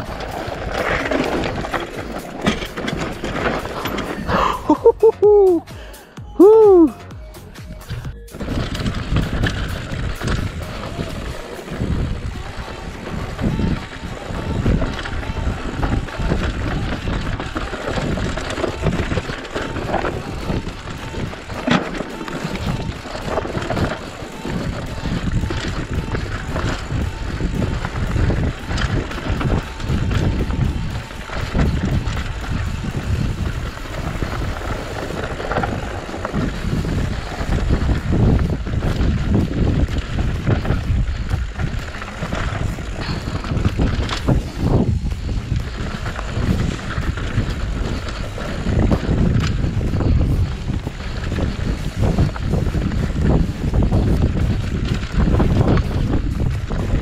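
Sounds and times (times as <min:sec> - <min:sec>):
mountain bike rattling downhill: 0:00.0 - 0:06.9, 0:07.8 - 0:57.0
wind noise on microphone: 0:00.0 - 0:57.0.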